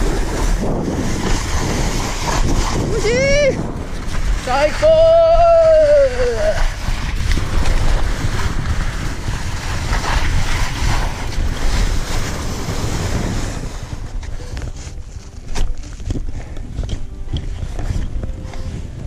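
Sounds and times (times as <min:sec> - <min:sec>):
skis sliding on snow: 0:00.0 - 0:16.6
wind buffeting microphone: 0:00.0 - 0:19.0.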